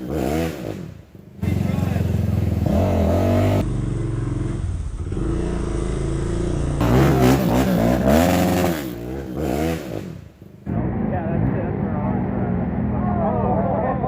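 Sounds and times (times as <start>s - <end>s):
four-wheeler engines revving: 0.0s - 14.0s.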